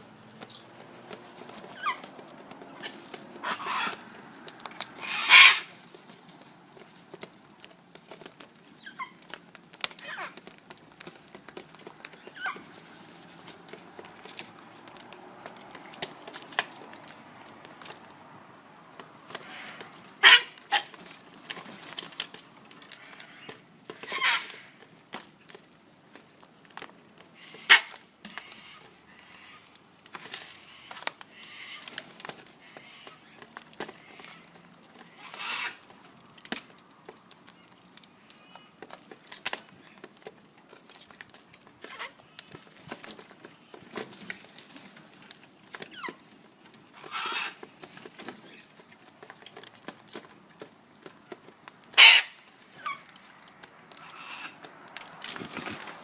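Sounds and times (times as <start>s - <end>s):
bird beak cracking food: 0.1s - 56.0s.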